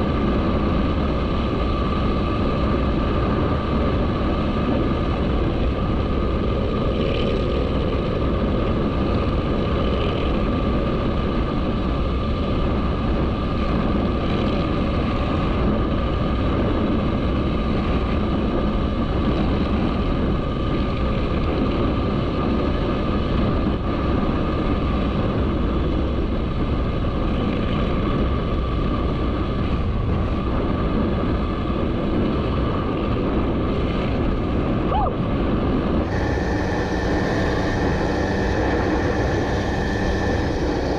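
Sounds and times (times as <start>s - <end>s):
motorcycle running: 0.0s - 40.9s
road noise: 0.0s - 40.9s.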